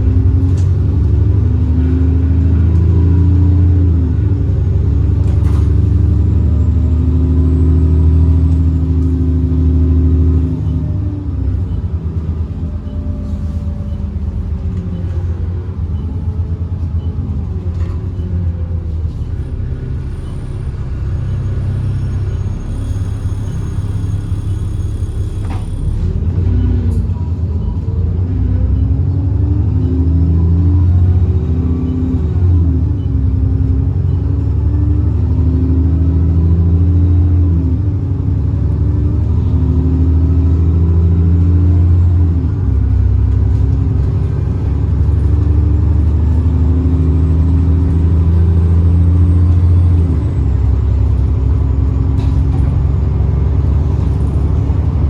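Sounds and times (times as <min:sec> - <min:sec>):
bus diesel engine accelerating: 0:00.0 - 0:55.0.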